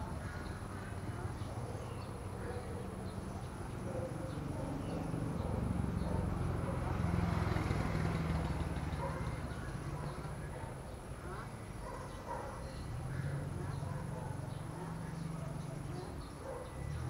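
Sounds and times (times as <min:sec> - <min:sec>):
low rumble of passing vehicle: 0:00.0 - 0:17.0.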